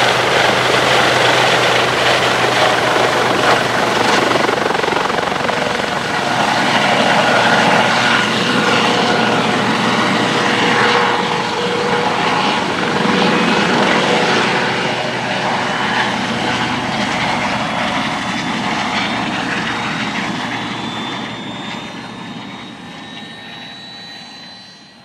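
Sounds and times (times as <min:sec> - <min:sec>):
helicopter rotor and turbine whine: 0:00.0 - 0:25.0.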